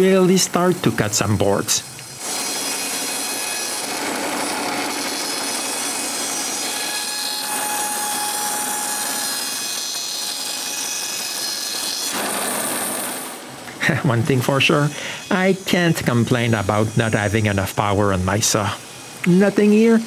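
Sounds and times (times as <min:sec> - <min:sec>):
bandsaw cutting log: 0:00.9 - 0:13.4, 0:14.5 - 0:18.7.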